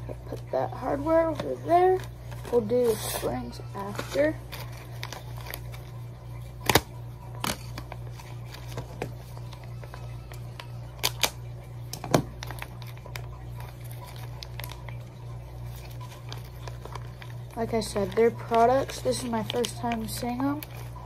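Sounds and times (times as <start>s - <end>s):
steady low hum: 0.0s - 21.0s
plastic bag crinkling: 1.3s - 21.0s
plastic crackles and snaps: 3.9s - 21.0s.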